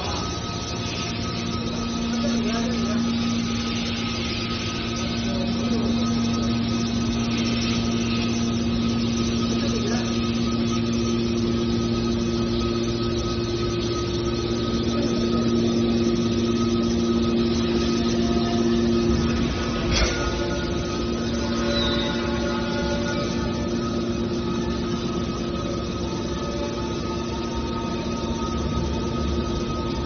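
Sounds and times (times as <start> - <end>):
higher tone: 0.0 - 30.0
hydraulic motor and pump hum: 0.0 - 30.0.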